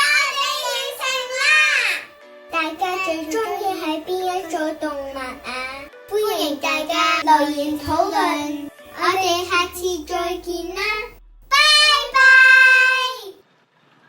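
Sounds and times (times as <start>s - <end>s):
music: 0.0s - 12.9s
child singing: 0.0s - 13.4s.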